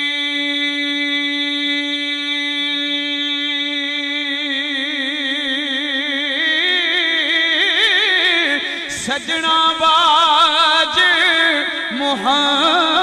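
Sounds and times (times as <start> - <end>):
man singing a long note: 0.0 - 13.0.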